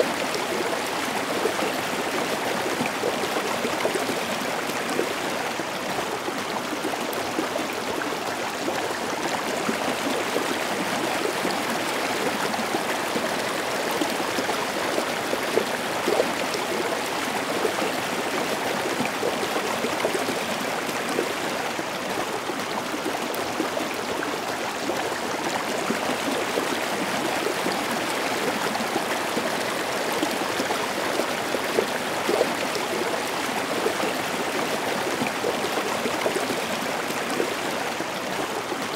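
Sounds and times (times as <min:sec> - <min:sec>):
stream water rushing and gurgling: 0:00.0 - 0:38.9.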